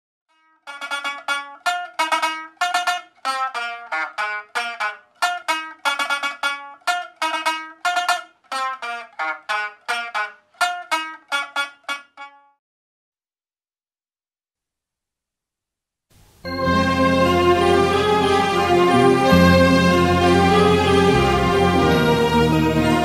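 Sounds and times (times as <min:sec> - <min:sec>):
plucked string instrument melody: 0:00.3 - 0:12.6, 0:16.5 - 0:23.0.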